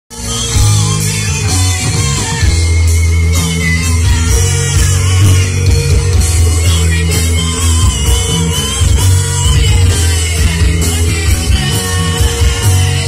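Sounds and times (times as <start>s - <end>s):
electric guitars: 0.1s - 13.0s
heavy bass line: 0.1s - 13.0s
live rock band: 0.1s - 13.0s.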